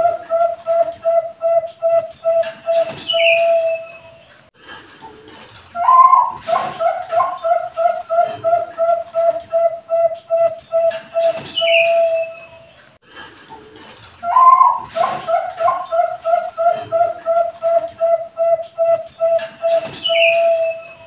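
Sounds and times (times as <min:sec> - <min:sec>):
dove cooing: 0:00.0 - 0:04.1, 0:05.8 - 0:12.5, 0:14.2 - 0:21.0.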